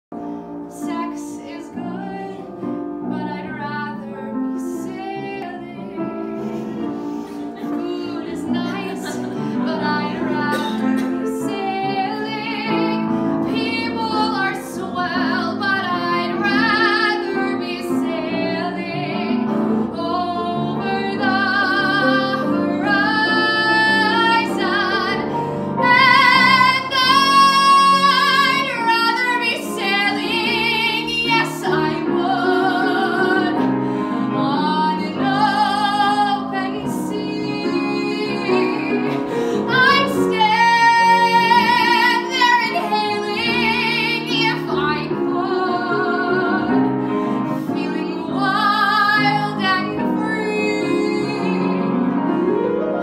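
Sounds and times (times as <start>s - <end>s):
grand piano: 0.0s - 53.0s
woman singing a ballad: 0.7s - 6.1s, 7.5s - 52.0s.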